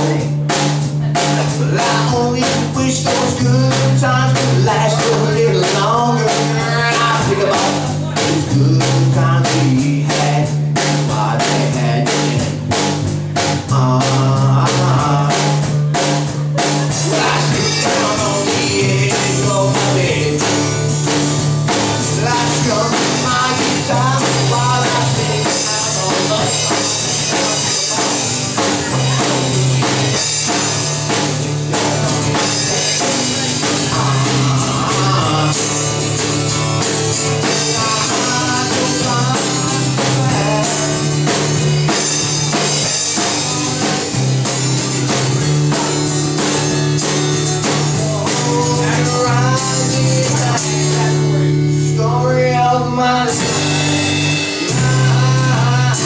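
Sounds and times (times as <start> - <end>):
drum kit beat: 0.0 - 56.0
electric bass: 0.0 - 56.0
guitar playing: 0.0 - 56.0
man singing: 0.0 - 56.0.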